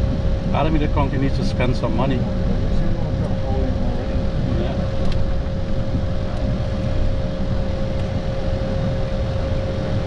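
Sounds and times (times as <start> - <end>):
jet engines running: 0.0 - 10.0
steady engine whine: 0.0 - 10.0.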